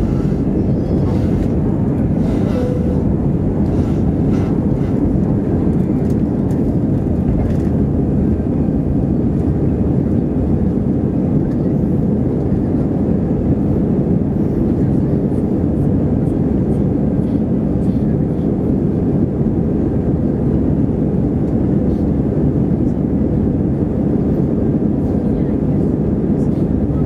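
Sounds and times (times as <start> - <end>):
airplane cabin engine noise: 0.0 - 27.0.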